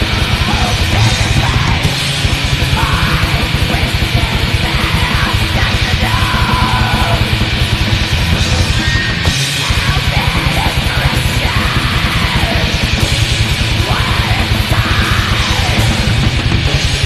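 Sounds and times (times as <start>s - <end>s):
distorted tremolo guitar: 0.0s - 17.0s
fast relentless drumming: 0.0s - 17.0s
harsh shrieked vocals: 0.0s - 17.0s.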